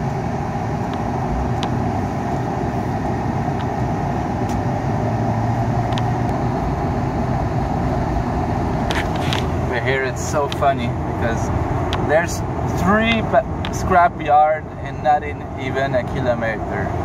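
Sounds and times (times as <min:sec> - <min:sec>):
truck engine and road noise: 0:00.0 - 0:17.0.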